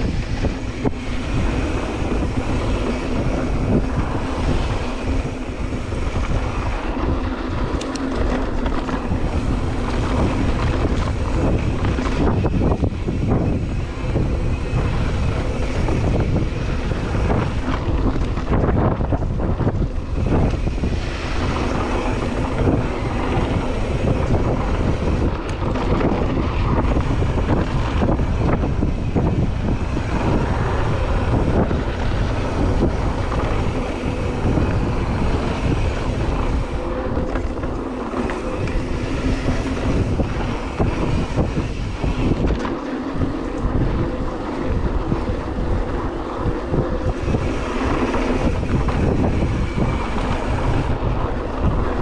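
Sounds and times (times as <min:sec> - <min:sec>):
bike rattling over bumps: 0:00.0 - 0:52.0
tyres rolling on dirt trail: 0:00.0 - 0:52.0
wind rushing over microphone: 0:00.0 - 0:52.0.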